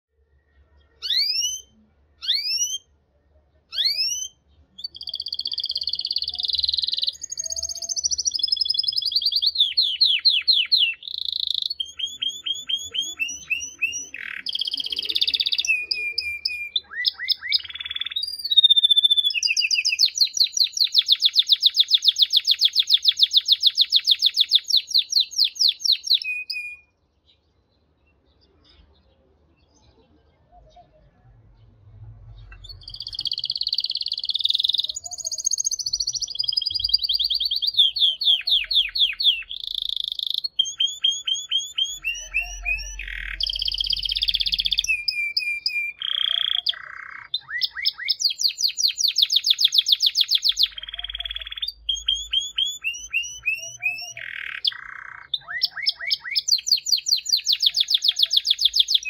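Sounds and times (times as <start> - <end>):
canary singing trills: 0.2 - 27.5, 32.3 - 59.0.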